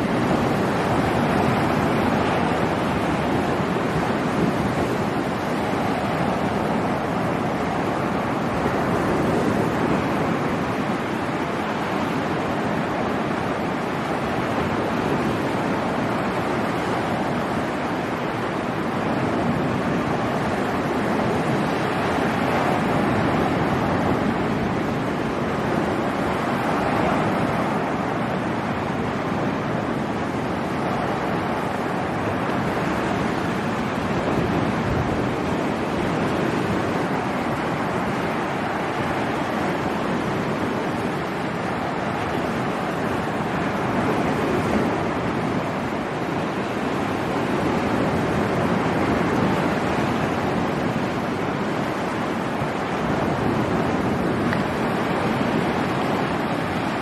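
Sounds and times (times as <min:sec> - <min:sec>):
surf washing over rocks: 0:00.0 - 0:57.0.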